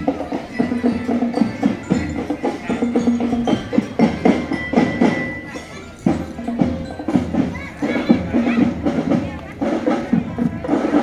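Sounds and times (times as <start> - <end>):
sustained melody: 0.0 - 10.0
marching drums: 0.0 - 11.0.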